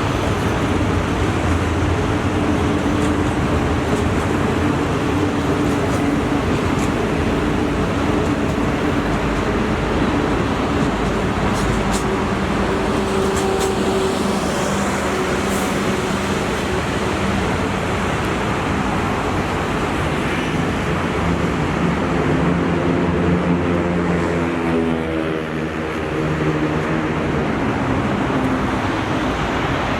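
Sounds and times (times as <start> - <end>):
train engine hum: 0.0 - 29.9
train wheels rumbling on rails: 0.0 - 29.9.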